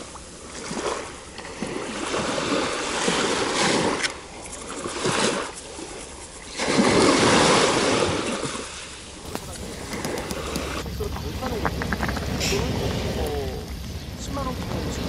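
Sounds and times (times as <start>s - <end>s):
small waves on sandy shore: 0.0s - 15.0s.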